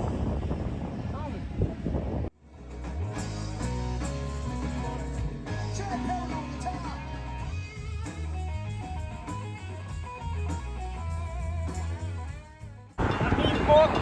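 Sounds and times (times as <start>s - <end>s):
bass line: 2.4s - 14.0s.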